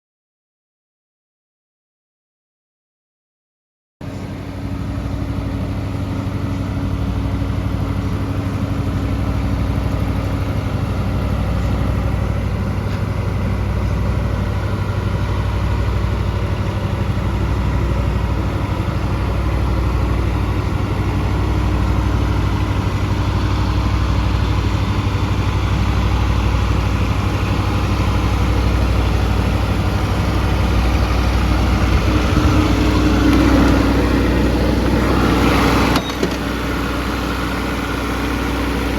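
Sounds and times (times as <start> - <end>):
mini excavator diesel engine idling: 4.0 - 38.9.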